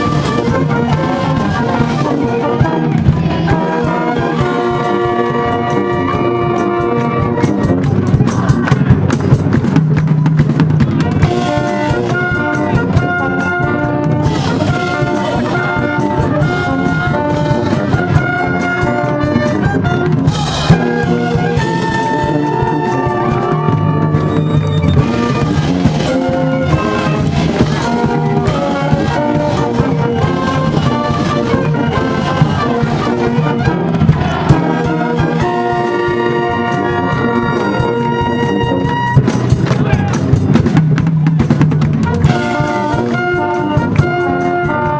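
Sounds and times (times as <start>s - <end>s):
brass band playing: 0.0s - 44.9s
drum beat: 0.0s - 44.9s.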